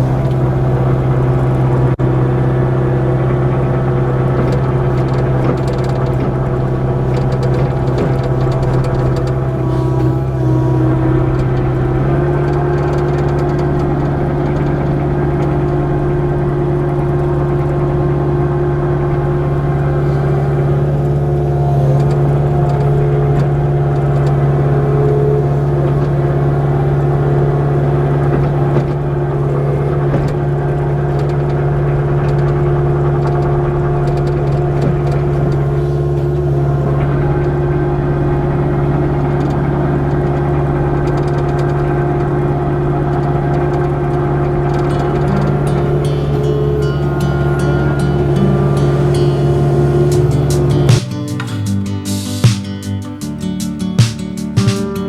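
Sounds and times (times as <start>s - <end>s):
mini excavator diesel engine: 0.0s - 55.0s.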